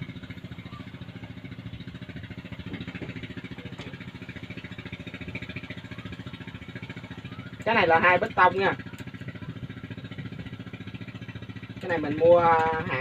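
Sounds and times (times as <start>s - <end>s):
brush-cutter engine idling: 0.0s - 13.0s.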